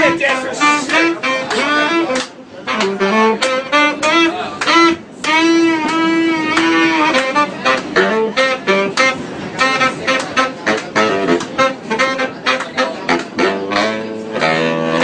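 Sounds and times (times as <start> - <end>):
saxophone playing short notes: 0.0 - 15.0.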